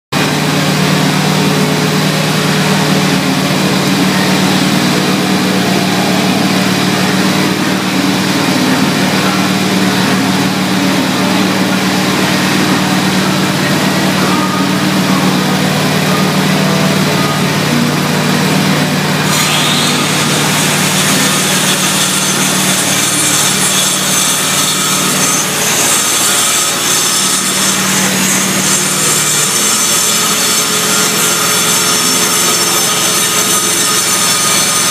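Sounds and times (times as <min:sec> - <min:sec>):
power tool grinding concrete: 0:00.1 - 0:34.9
hissing grinding: 0:00.3 - 0:34.9.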